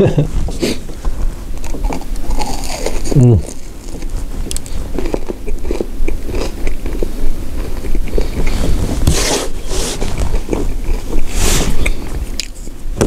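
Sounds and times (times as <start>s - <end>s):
crunchy chewing: 1.5s - 12.8s.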